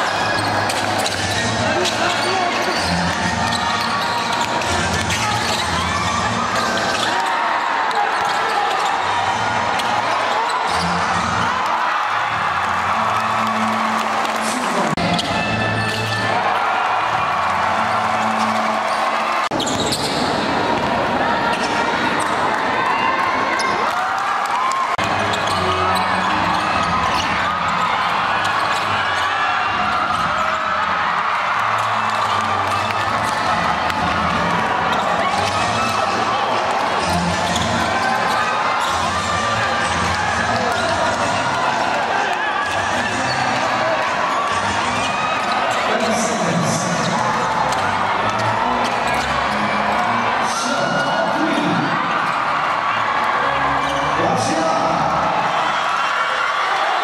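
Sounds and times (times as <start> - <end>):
sneakers squeaking on floor: 0.0 - 11.5, 13.2 - 16.4, 17.8 - 22.5, 24.7 - 30.8, 31.6 - 41.9, 42.6 - 52.6, 53.4 - 54.2
voices of players and crowd: 0.0 - 57.0.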